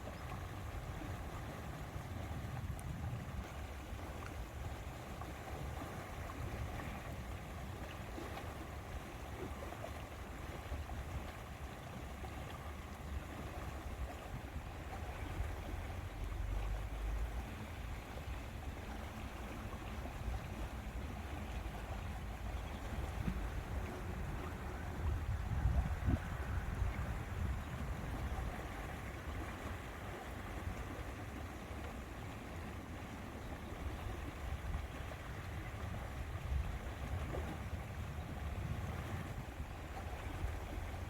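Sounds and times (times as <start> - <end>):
lake water lapping: 0.0 - 41.0.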